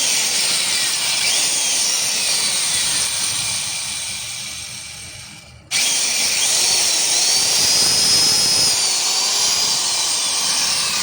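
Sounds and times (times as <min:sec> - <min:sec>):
electric grinder on steel: 0:00.0 - 0:11.0.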